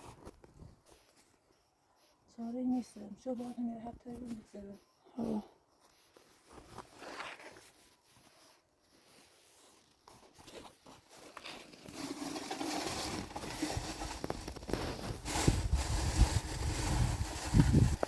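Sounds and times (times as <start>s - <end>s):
faint rustling and crinkling: 0.0s - 18.0s.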